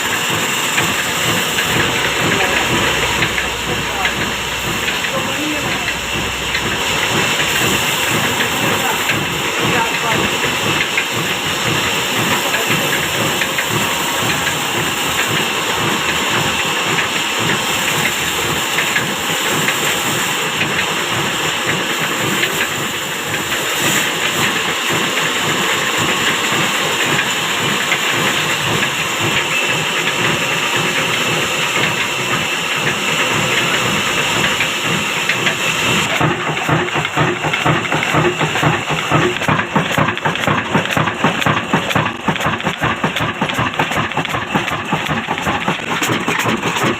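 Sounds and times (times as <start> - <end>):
diesel engine running: 0.0 - 46.9
hiss: 0.0 - 46.9.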